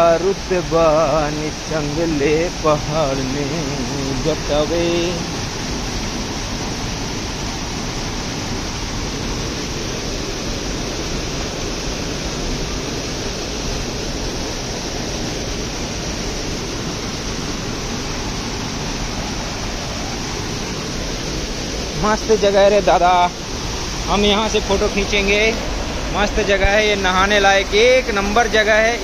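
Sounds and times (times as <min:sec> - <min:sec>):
waterfall splashing into pool: 0:00.0 - 0:29.0.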